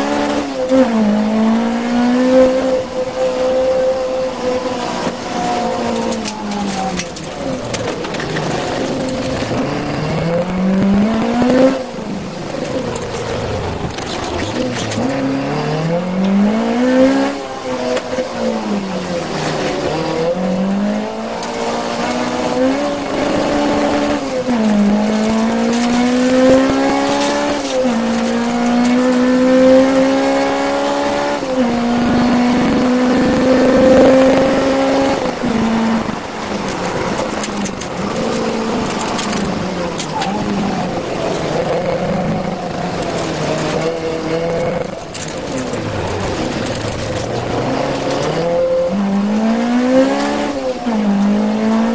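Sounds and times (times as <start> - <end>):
rally car engine driven hard: 0.0 - 51.9.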